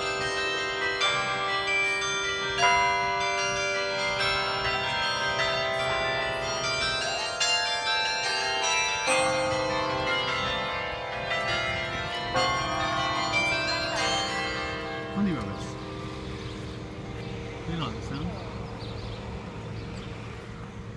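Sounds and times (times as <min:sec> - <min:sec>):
carillon bells playing a tune: 0:00.0 - 0:19.0.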